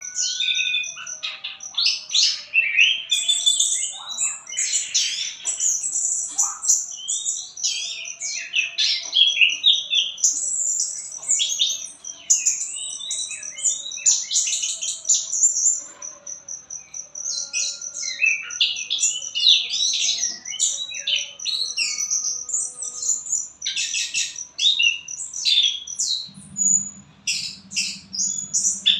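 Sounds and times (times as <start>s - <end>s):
songbird singing with high trill: 0.0s - 28.9s.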